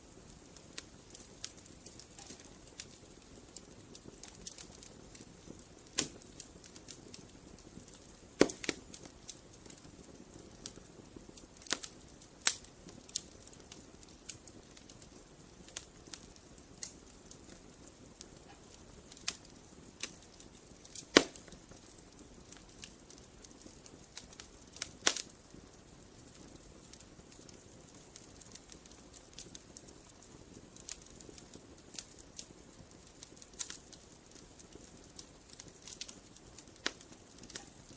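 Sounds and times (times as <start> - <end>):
campfire crackling and popping: 0.0 - 37.9
fire hissing: 0.0 - 37.9.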